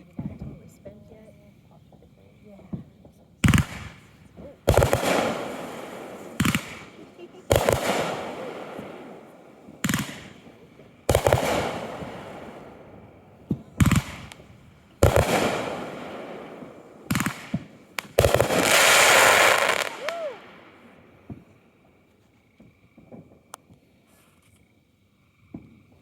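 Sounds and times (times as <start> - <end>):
fireworks booming with echo: 0.0 - 23.9.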